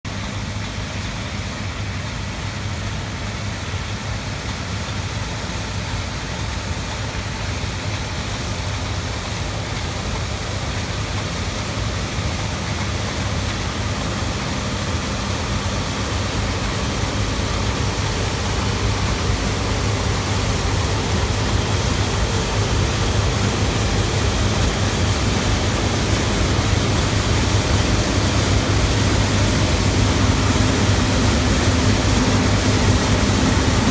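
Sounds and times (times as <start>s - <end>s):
combine harvester engine hum: 0.1s - 33.9s.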